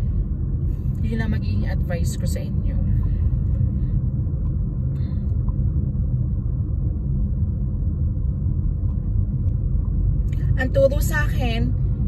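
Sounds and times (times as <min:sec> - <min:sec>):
car driving on paved road: 0:00.0 - 0:12.0.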